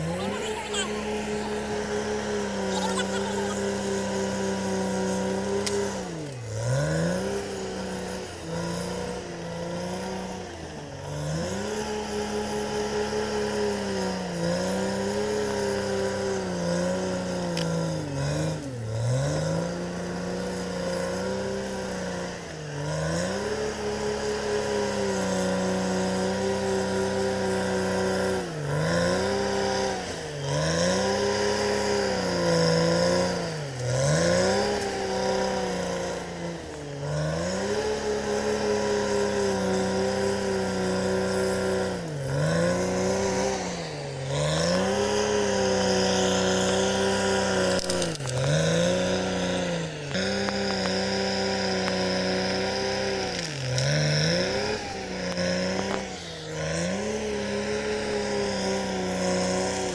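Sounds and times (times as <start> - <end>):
bulldozer blade pushing earth: 0.0 - 59.9
bulldozer diesel engine at high revs: 0.0 - 59.9.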